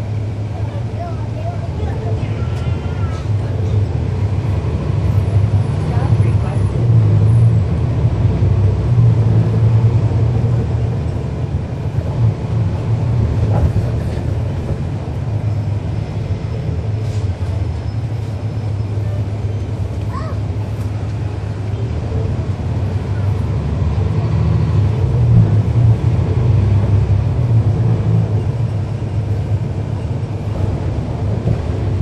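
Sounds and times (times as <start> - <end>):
bus diesel engine droning: 0.0 - 32.0.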